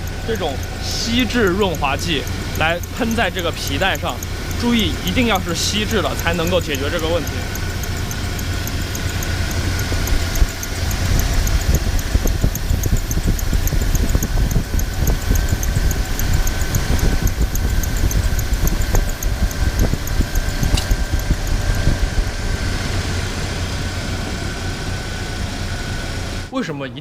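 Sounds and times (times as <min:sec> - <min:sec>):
car engine idling: 0:00.0 - 0:27.0
drive belt chirping: 0:00.0 - 0:27.0.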